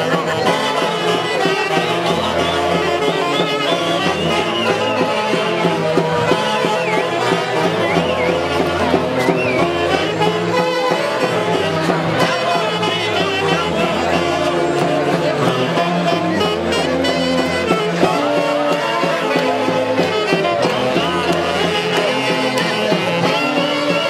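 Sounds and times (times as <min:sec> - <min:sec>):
bass beat: 0:00.0 - 0:24.0
wind instruments holding melody: 0:00.0 - 0:24.0.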